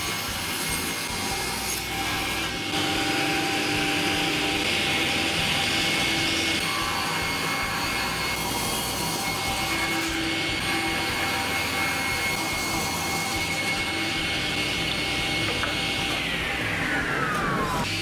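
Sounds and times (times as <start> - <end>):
table saw whining: 0.0 - 18.0.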